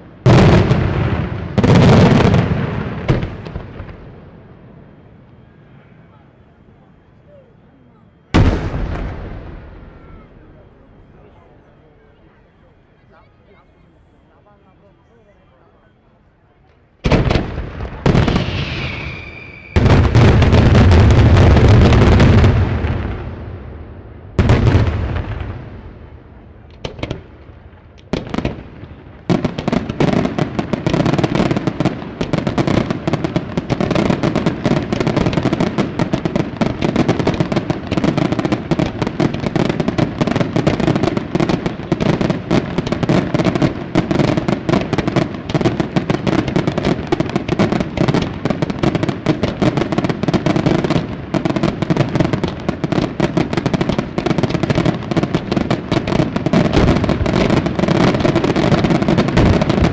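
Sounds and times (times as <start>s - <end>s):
fireworks bangs: 0.0s - 7.1s, 7.9s - 13.2s, 16.6s - 59.9s
fireworks barrage: 0.0s - 15.6s, 16.9s - 59.9s.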